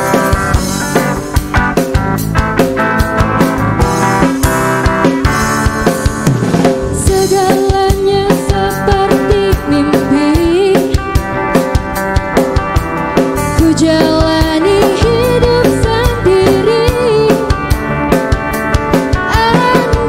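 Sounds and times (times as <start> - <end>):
drum kit beat: 0.0 - 20.0
live pop band playing: 0.0 - 20.0
wavering lead melody: 0.0 - 20.0.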